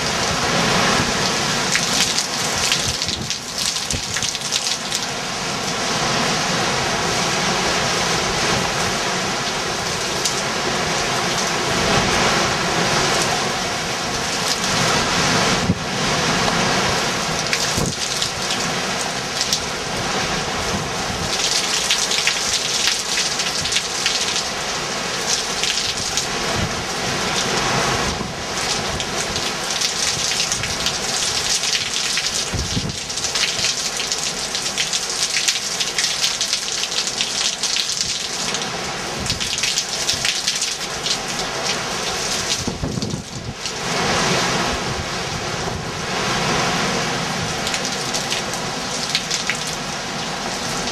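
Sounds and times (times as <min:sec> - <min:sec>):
heavy rain and wind: 0:00.0 - 0:50.9.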